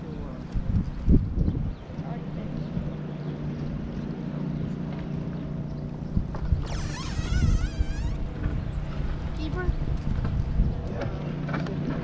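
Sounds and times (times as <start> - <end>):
boat low hum: 0.0 - 12.0.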